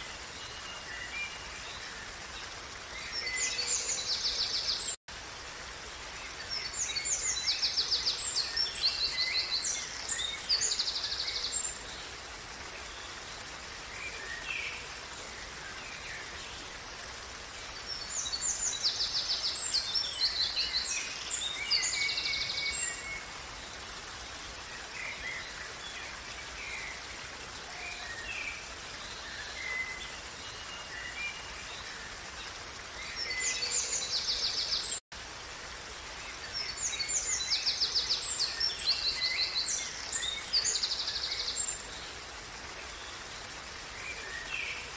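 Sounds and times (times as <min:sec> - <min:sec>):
songbirds trilling and chirping: 0:00.0 - 0:05.0, 0:05.7 - 0:35.0, 0:35.9 - 0:44.9
stream water running: 0:00.0 - 0:44.9.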